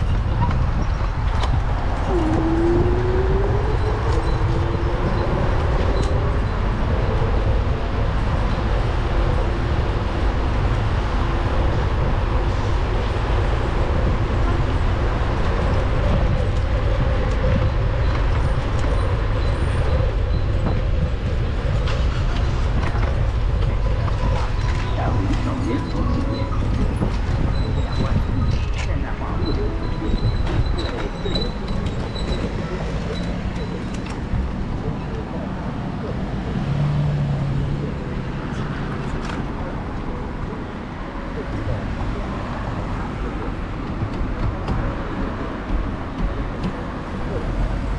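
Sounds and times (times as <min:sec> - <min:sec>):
road and traffic noise: 0:00.0 - 0:47.9
vehicle engine hum: 0:00.0 - 0:47.9
wind buffeting microphone: 0:00.0 - 0:47.9.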